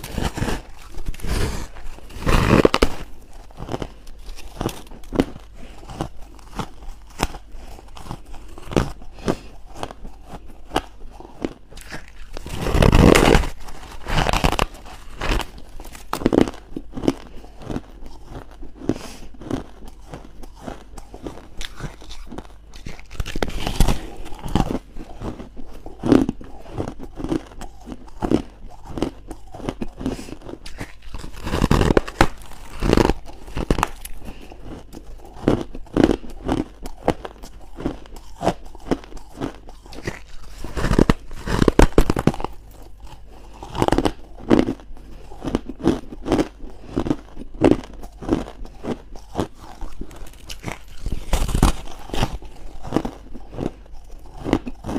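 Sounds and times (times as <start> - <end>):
biting into crunchy ice: 0.0 - 54.9.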